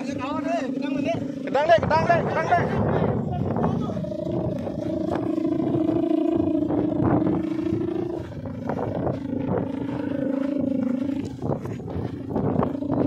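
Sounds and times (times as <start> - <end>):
kite hummer droning: 0.0 - 13.0
wind rumble on microphone: 0.0 - 13.0.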